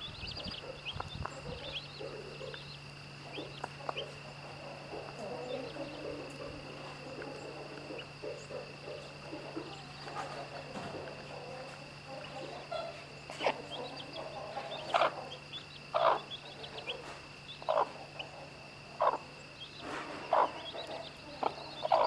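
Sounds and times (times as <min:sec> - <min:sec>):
chicks peeping: 0:00.0 - 0:22.0
hen clucking: 0:00.0 - 0:22.0.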